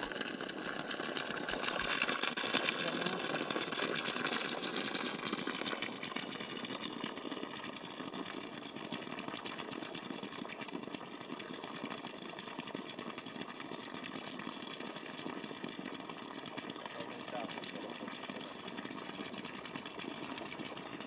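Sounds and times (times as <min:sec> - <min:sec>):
fountain water splashing on stone: 0:00.0 - 0:21.0.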